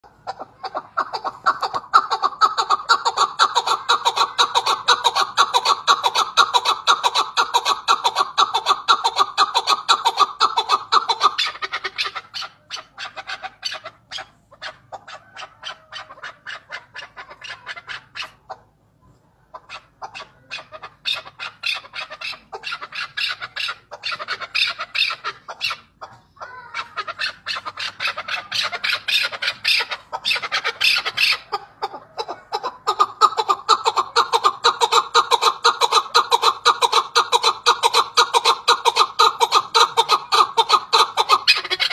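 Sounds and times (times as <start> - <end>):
partridge calling: 0.0 - 41.9.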